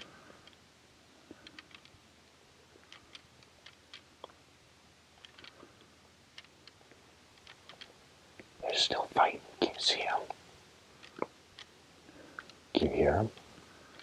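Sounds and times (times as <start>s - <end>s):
low steady hiss: 0.0s - 14.0s.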